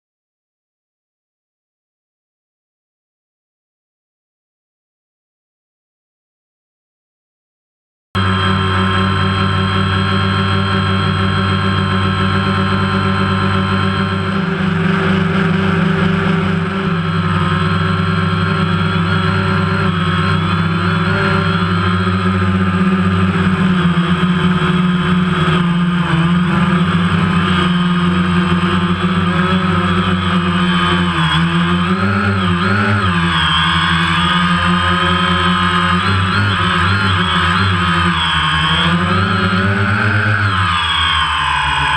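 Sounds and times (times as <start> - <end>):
drone propellers buzzing: 8.2 - 41.9.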